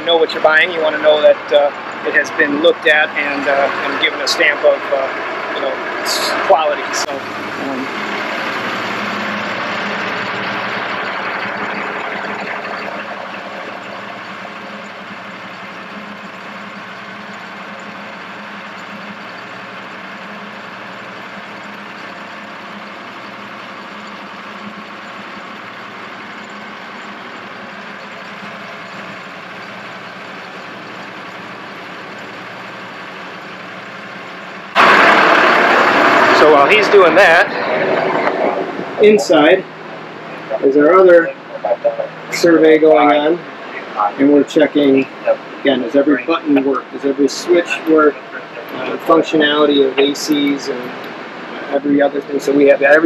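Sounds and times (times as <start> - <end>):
diesel engines droning: 0.0 - 53.0.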